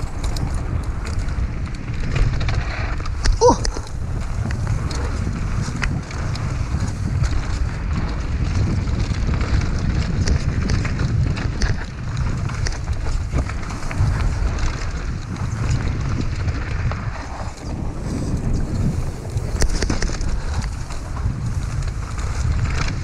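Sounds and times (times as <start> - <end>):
bike clicks and rattles: 0.0 - 23.0
bike tyres on dirt: 0.0 - 23.0
wind buffeting microphone: 0.0 - 23.0.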